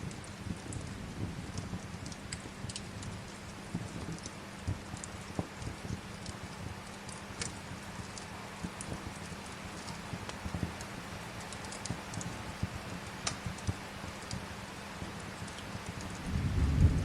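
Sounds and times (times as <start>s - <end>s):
rain hiss: 0.0s - 17.0s
wood fire crackling and popping: 0.0s - 17.0s.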